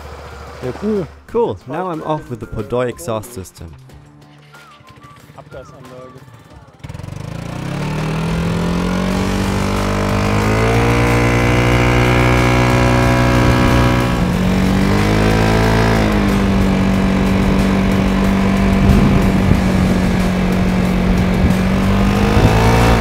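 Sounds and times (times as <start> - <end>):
scooter engine accelerating: 0.0 - 1.2, 4.4 - 23.0.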